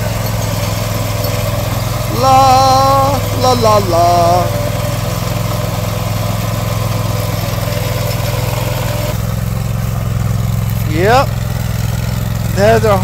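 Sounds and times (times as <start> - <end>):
machine engine running: 0.0 - 13.0.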